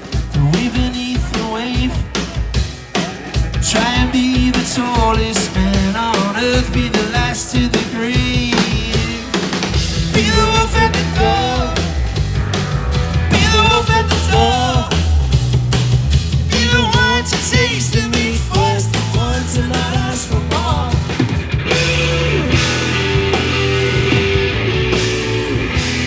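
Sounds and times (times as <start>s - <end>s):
live rock band playing: 0.0s - 26.0s
wavering lead line: 3.0s - 26.0s.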